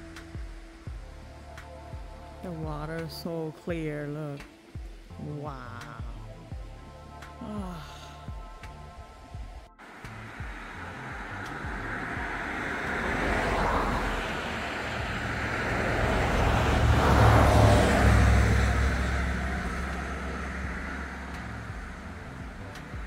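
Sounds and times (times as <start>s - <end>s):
vehicles passing: 4.5s - 23.0s.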